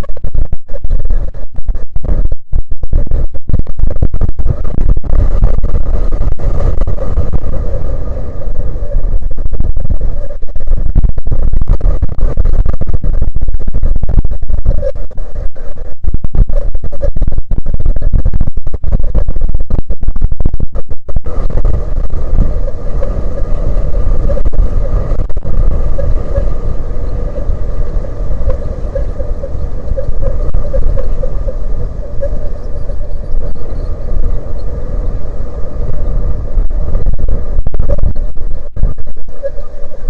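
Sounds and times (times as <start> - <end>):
faint steady hum: 0.0 - 40.0
strong wind buffeting microphone: 0.0 - 40.0.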